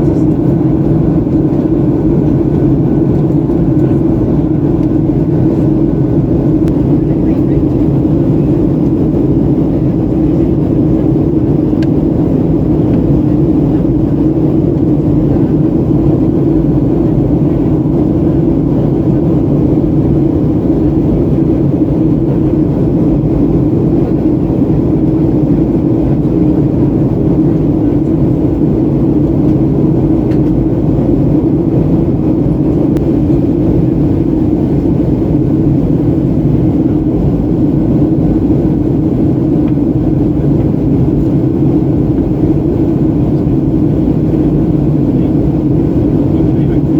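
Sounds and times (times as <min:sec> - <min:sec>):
airplane cabin engine drone: 0:00.0 - 0:46.9.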